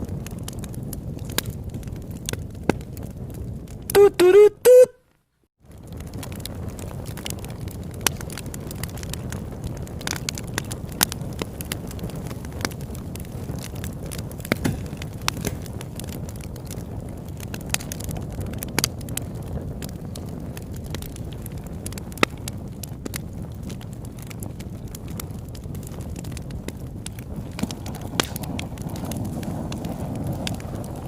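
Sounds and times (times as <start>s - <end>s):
low rush of flames: 0.0s - 4.0s, 5.6s - 31.0s
campfire pops and snaps: 0.0s - 4.4s, 5.6s - 31.0s.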